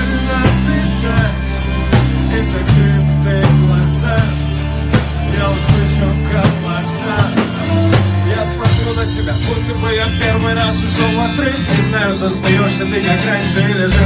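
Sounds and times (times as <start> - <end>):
drums steady beat: 0.0 - 14.0
electric bass long low notes: 0.0 - 14.0
guitar or keyboard lines: 0.0 - 14.0.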